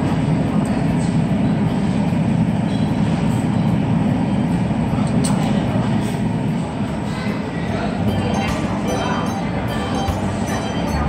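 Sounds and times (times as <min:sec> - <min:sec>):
restaurant background noise: 0:00.0 - 0:11.0.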